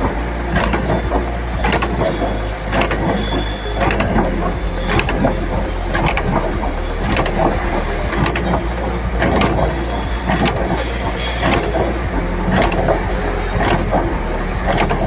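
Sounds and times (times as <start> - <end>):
mechanical clicks and clanks: 0.0 - 15.0
welding machine humming: 0.0 - 15.0.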